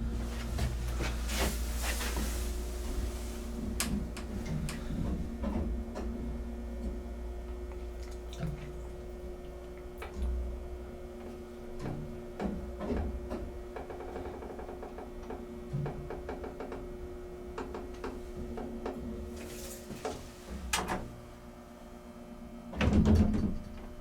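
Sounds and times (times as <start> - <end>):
elevator pump motor humming: 0.0 - 21.7.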